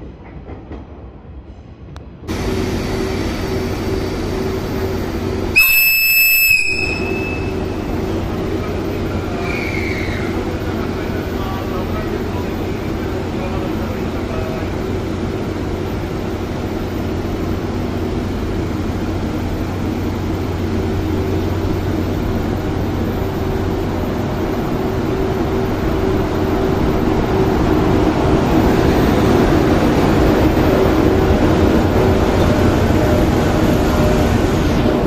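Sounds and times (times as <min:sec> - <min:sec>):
electric locomotive humming: 0:02.0 - 0:35.0.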